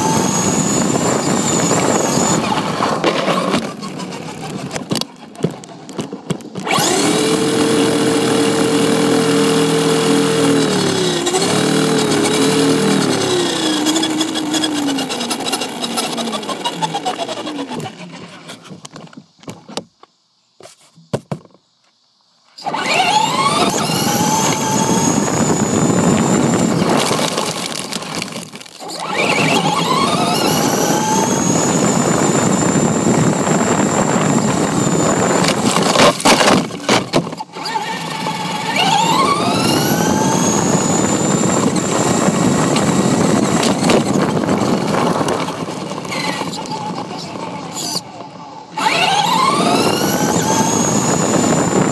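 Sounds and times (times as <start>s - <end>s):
toy truck motor whining: 0.0s - 19.0s, 22.6s - 51.9s
tyres rumbling on rough asphalt: 0.0s - 20.0s, 22.6s - 51.9s.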